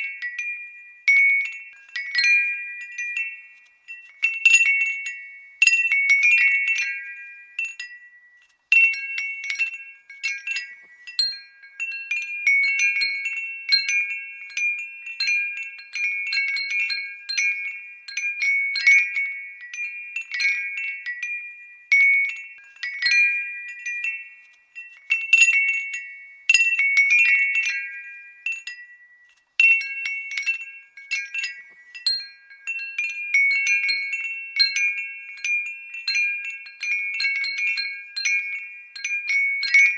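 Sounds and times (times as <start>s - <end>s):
glass wind bell tinkling: 0.0s - 39.9s.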